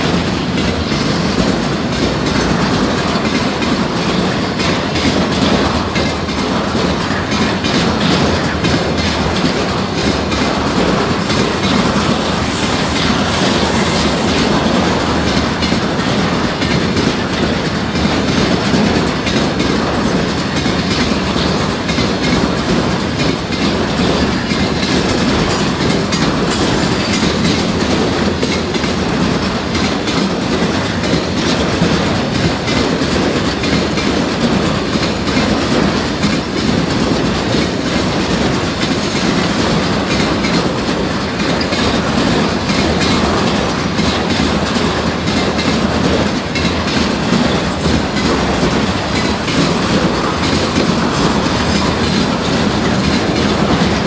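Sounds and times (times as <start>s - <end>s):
freight train rumble: 0.0s - 54.0s
train wheels clattering on rails: 0.0s - 54.0s.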